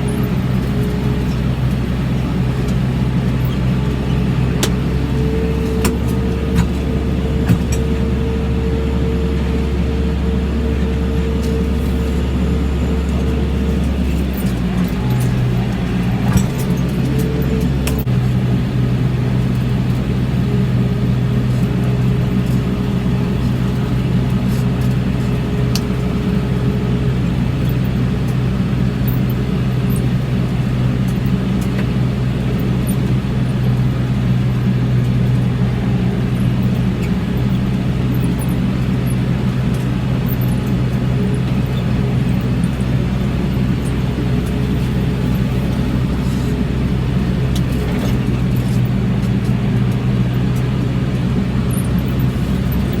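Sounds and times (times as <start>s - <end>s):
tractor engine droning: 0.0s - 53.0s.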